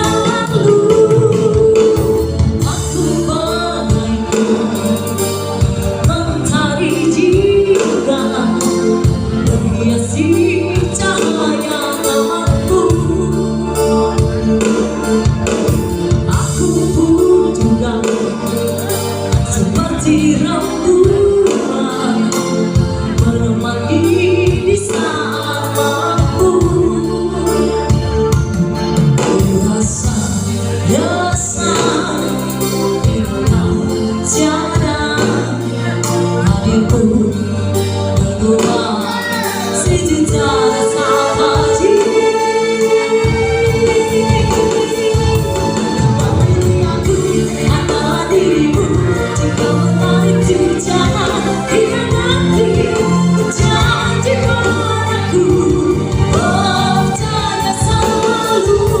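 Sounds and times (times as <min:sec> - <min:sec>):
band with bass and drums: 0:00.0 - 0:59.0
person singing pop song: 0:00.0 - 0:59.0.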